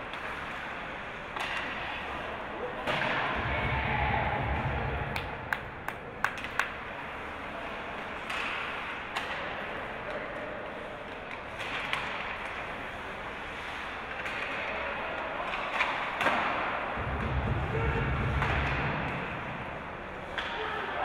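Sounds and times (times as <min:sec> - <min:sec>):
hockey sticks and puck clacking: 0:00.0 - 0:03.4, 0:05.0 - 0:21.0
steady background noise: 0:00.0 - 0:21.0.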